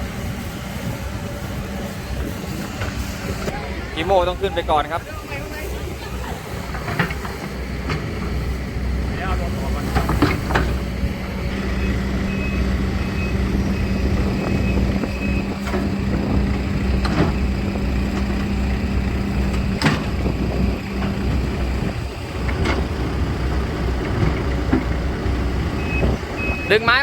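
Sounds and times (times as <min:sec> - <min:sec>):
diesel engine of machinery: 0:00.0 - 0:27.0.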